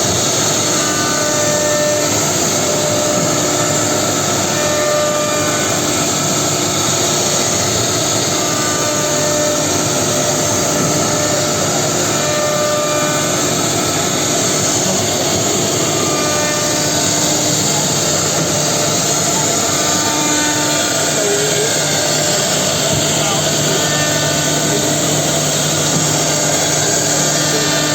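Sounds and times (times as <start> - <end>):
router cutting wood: 0.0 - 27.9.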